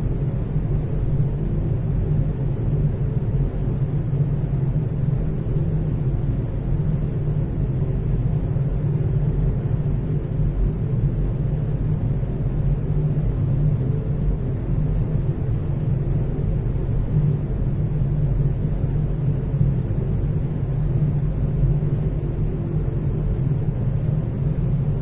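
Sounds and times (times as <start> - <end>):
ventilation hum: 0.0 - 25.0.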